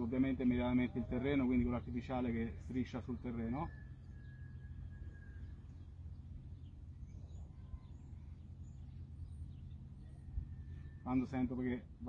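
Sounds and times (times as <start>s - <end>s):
low background rumble: 0.0s - 12.0s
faint bird chirps: 0.8s - 11.8s.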